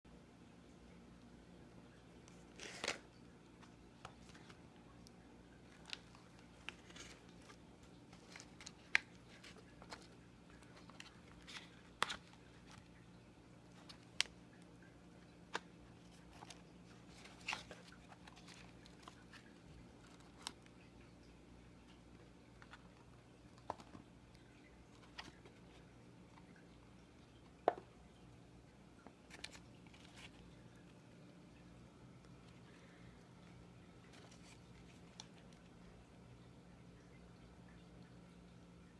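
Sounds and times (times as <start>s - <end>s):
low steady hum: 0.1s - 38.9s.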